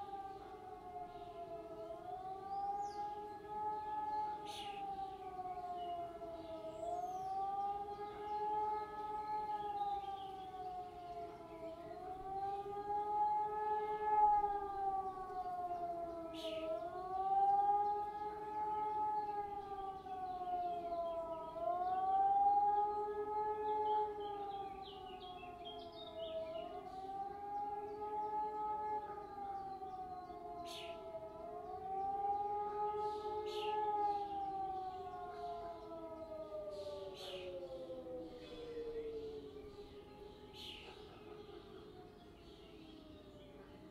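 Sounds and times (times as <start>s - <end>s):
warning sirens howling: 0.0s - 43.9s.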